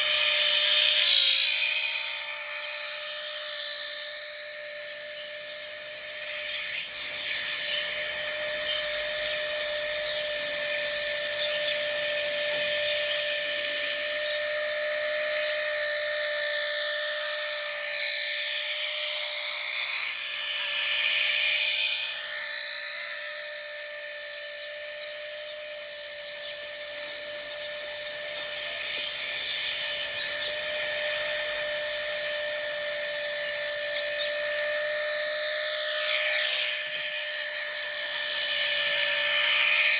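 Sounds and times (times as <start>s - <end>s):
rc helicopter whine: 0.0s - 39.9s.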